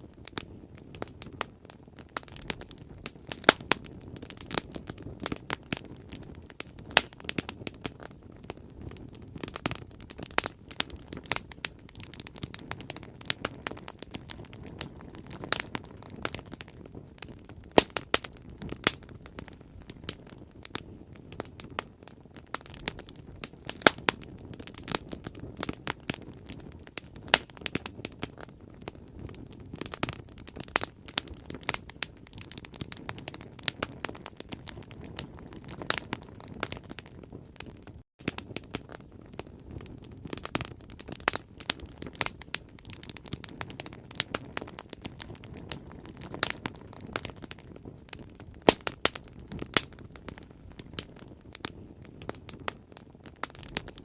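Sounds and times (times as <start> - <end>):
low hiss and rumble of flames: 0.0 - 54.0
wood fire crackling and popping: 0.0 - 54.0.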